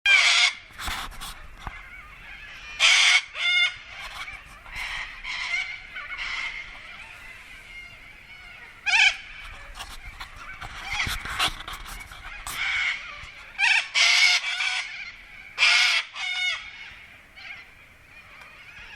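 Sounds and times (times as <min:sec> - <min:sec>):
flock of birds chattering: 0:00.1 - 0:18.9
harsh bird squawks: 0:00.1 - 0:18.9.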